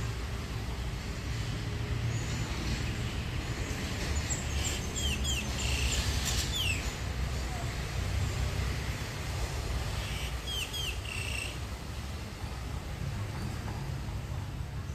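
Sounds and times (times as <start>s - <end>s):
distant road traffic rumble: 0.0s - 14.9s.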